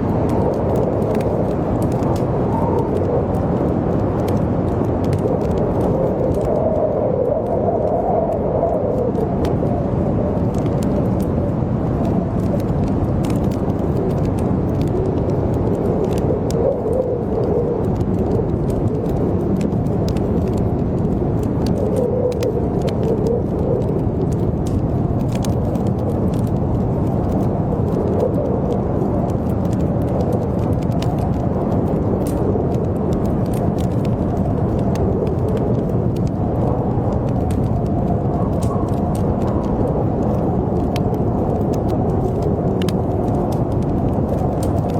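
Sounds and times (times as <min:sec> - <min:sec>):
blizzard wind howling: 0:00.0 - 0:44.9
wood fire crackling: 0:00.0 - 0:44.9.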